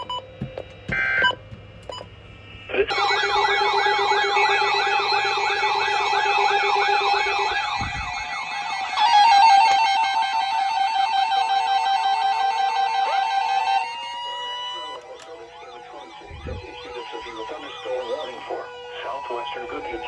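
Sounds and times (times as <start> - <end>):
steady electronic tones: 0.0 - 20.0
warbling siren-like tone: 2.7 - 20.0.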